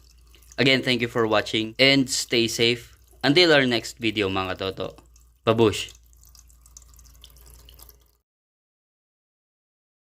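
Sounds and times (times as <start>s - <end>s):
trickling water: 0.0s - 8.2s.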